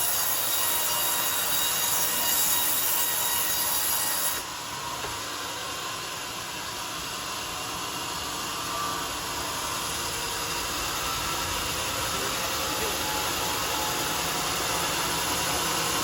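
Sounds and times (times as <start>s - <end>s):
circular saw cutting log: 0.0s - 16.0s.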